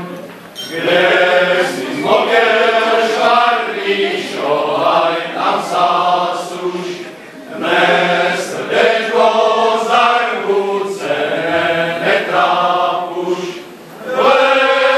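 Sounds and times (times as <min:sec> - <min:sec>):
male choir singing in harmony: 0:00.0 - 0:14.9.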